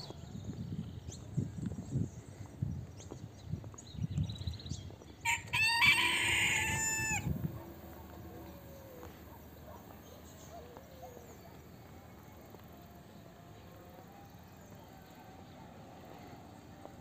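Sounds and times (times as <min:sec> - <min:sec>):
faint rural ambience: 0:00.0 - 0:17.0.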